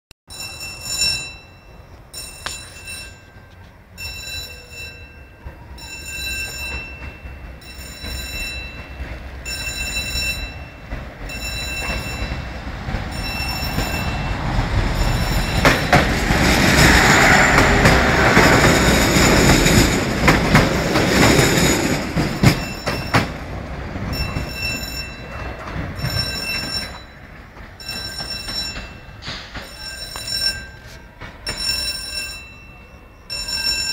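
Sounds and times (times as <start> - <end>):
level crossing warning bell: 0.3 - 33.9
passenger train passing: 0.3 - 33.9.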